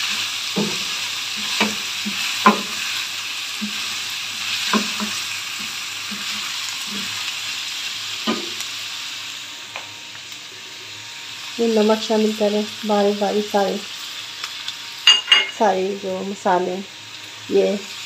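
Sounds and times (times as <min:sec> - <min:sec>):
meat and onions sizzling in oil: 0:00.0 - 0:18.0.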